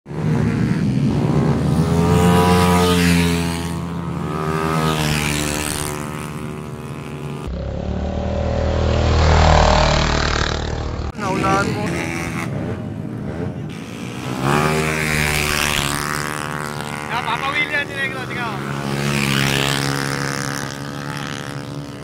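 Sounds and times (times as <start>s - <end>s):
racing scooters passing at high revs: 0.1s - 22.0s.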